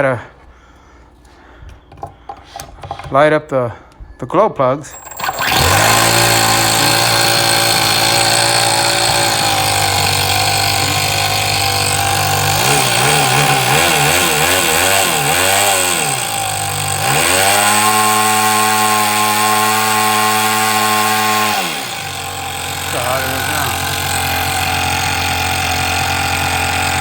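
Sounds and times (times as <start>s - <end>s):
miniature glow engine running: 4.9s - 27.0s.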